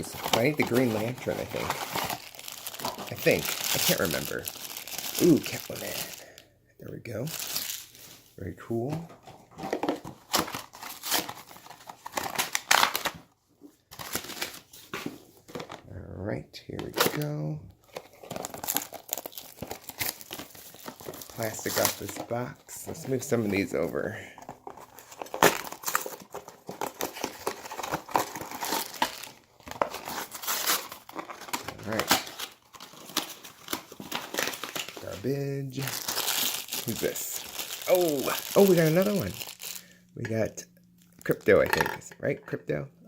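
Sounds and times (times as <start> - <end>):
packaging crinkling and rustling: 0.0 - 6.4, 8.8 - 15.8, 16.8 - 39.9.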